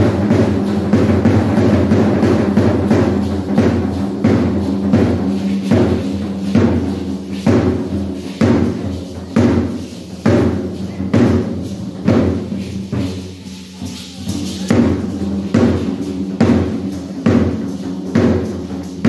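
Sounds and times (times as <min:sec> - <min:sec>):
heavy drum beats: 0:00.0 - 0:19.0.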